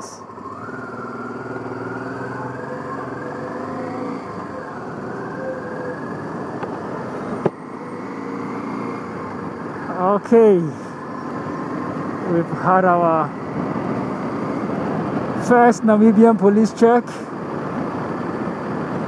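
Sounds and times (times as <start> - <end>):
motorcycle engine accelerating: 0.0 - 15.5.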